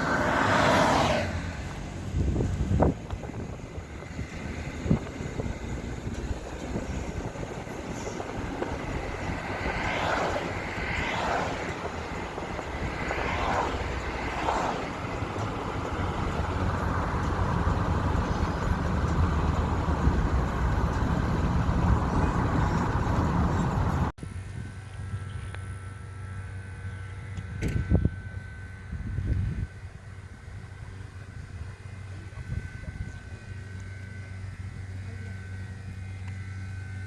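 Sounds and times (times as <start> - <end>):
low rumble of vehicles: 0.0 - 37.0.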